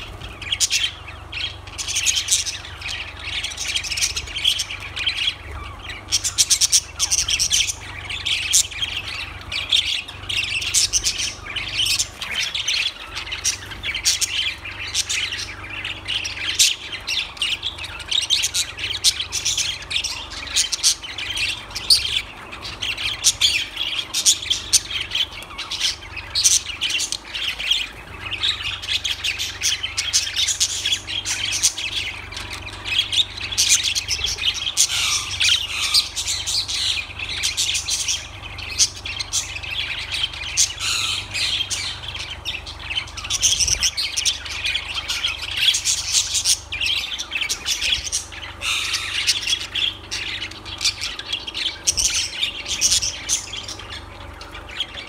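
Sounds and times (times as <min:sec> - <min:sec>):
budgerigars chirping and squawking: 0:00.0 - 0:55.0.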